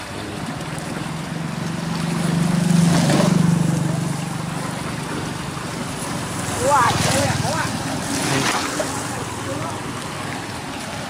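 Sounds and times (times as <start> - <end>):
small engine passing: 0.2 - 10.4.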